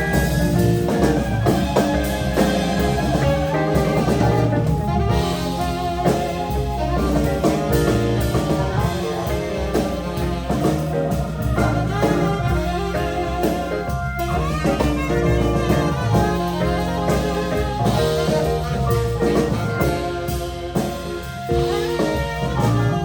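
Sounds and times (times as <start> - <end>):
jazz band playing: 0.0 - 23.0.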